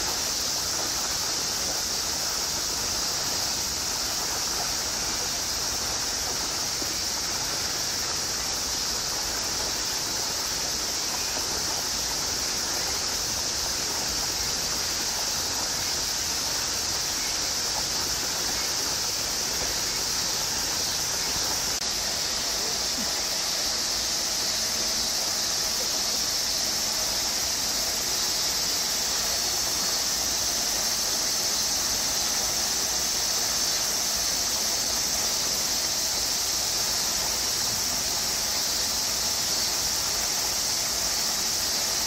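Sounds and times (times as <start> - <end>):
cicada chorus: 0.0 - 42.0.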